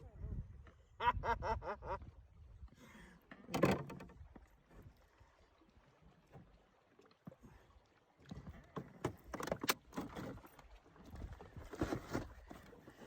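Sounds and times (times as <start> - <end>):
water splashing against hull: 2.1 - 13.0.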